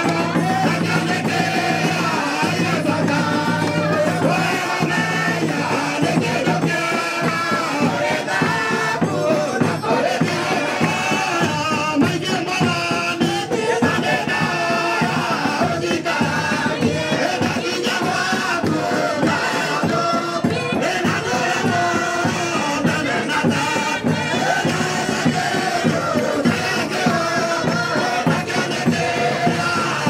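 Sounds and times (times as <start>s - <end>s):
large hand drum beating: 0.0s - 30.0s
voices singing together: 0.0s - 30.0s.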